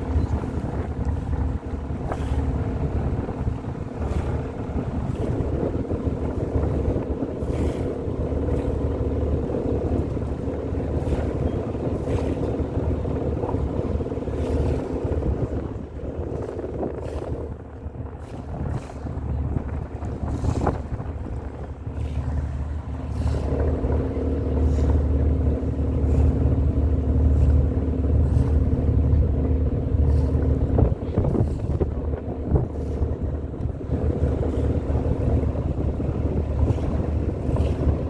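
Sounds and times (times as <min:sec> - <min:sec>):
boat engine humming: 0:00.0 - 0:38.0
wind buffeting microphone: 0:00.0 - 0:38.0.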